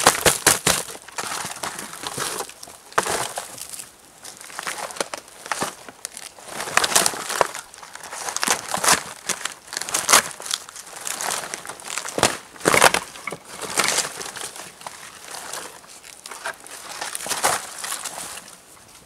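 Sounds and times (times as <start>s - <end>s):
bark crackling as peeled: 0.0s - 19.0s.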